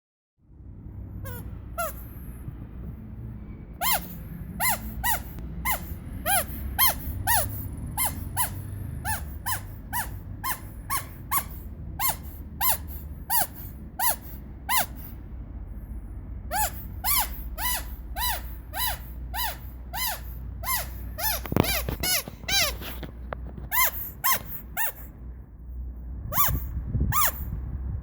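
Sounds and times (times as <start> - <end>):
rubber squeaky toy squeaking: 1.1 - 2.7, 3.4 - 15.3, 16.4 - 25.4, 26.1 - 27.7.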